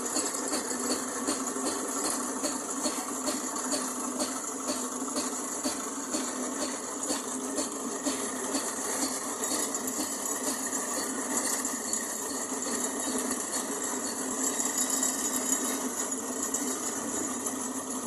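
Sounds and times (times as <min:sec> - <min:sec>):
small machine running: 0:00.0 - 0:18.0.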